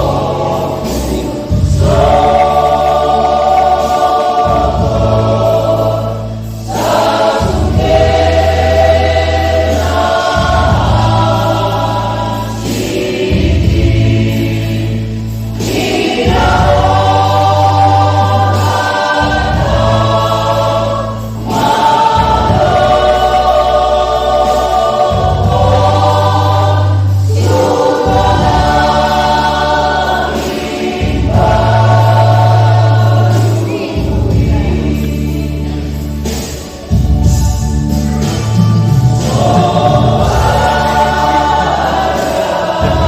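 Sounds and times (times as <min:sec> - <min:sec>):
choir singing a hymn: 0:00.0 - 0:43.0
low bass notes: 0:00.0 - 0:43.0.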